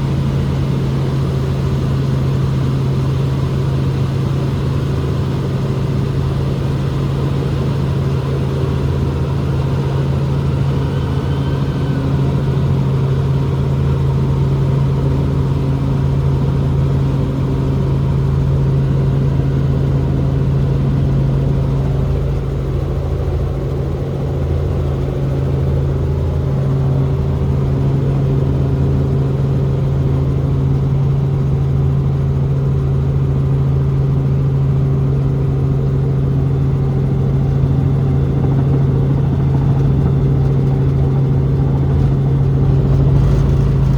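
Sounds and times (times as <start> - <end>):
helicopter drone: 0.0 - 43.9.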